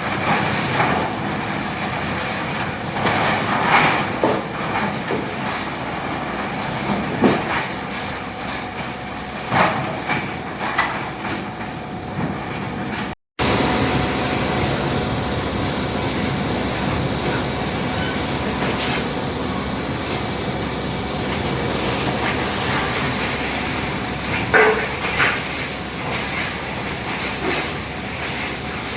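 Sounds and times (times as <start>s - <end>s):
tub grinder shredding wood: 0.0s - 28.9s.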